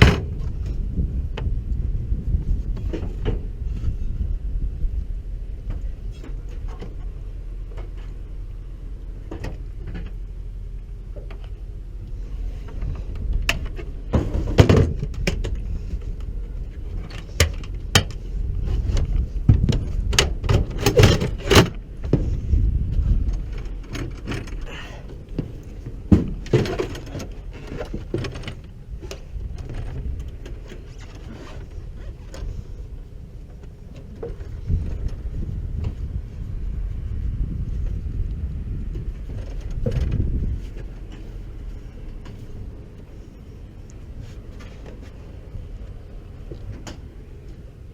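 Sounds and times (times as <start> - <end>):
low rumble: 0.0 - 47.9.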